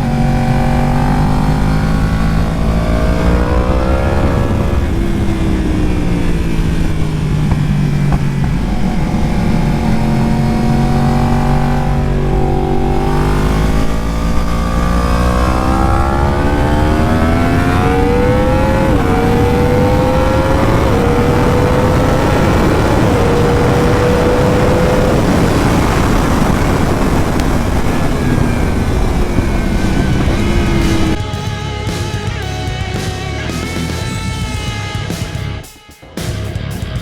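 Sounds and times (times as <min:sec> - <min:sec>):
wind and road noise: 0:00.0 - 0:32.9
gear upshifts: 0:00.0 - 0:34.6
motorcycle engine revving: 0:00.0 - 0:37.0.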